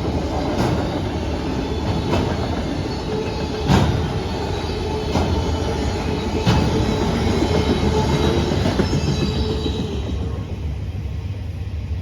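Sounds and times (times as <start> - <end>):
wheels clacking over rail joints: 0.0 - 10.2
train wheels rumbling on rail: 0.0 - 12.0.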